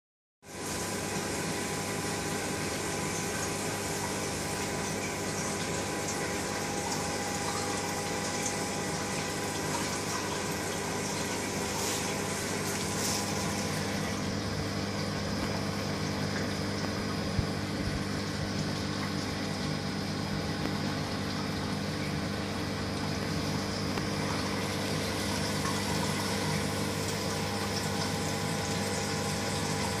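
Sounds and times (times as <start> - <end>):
pumps humming: 0.4 - 30.0
water running and trickling: 0.8 - 30.0.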